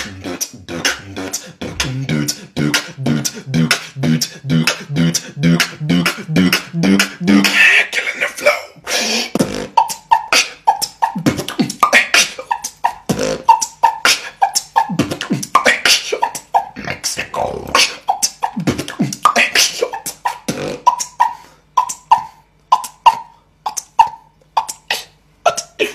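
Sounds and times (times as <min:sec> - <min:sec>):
beatboxing mouth sounds: 0:00.0 - 0:25.9.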